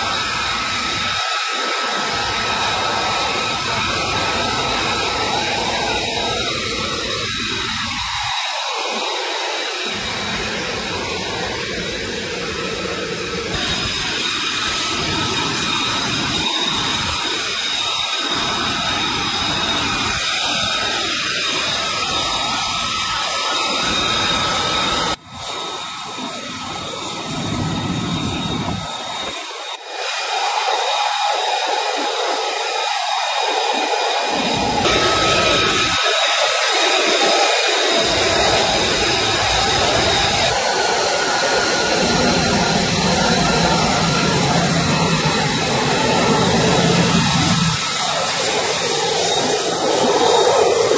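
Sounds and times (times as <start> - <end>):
high turbine whine: 0.0 - 50.9
jet engine idling: 0.0 - 50.9.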